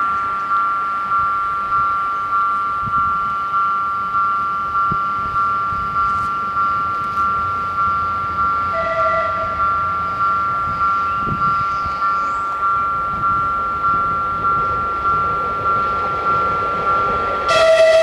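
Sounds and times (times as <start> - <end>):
level crossing bells ringing: 0.0 - 18.0.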